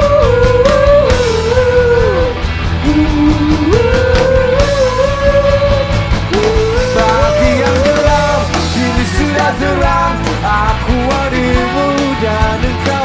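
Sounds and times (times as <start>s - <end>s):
drums: 0.0s - 13.0s
electric guitars: 0.0s - 13.0s
man singing: 0.0s - 13.0s.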